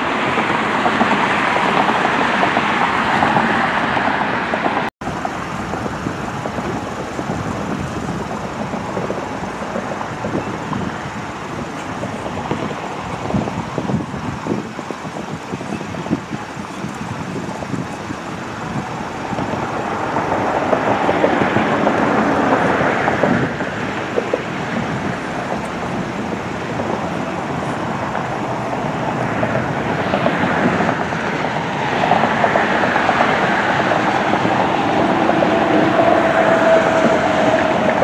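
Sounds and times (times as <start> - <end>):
jet engines rushing past: 0.0 - 38.0.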